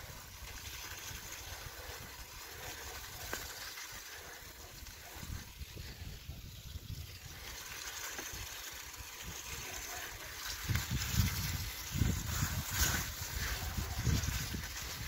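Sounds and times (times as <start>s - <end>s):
bicycle tyres swishing through slush: 0.0s - 15.0s.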